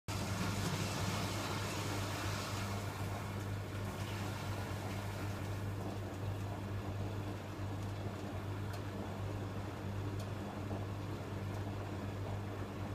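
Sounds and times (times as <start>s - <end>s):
washing machine motor hum: 0.1s - 12.9s.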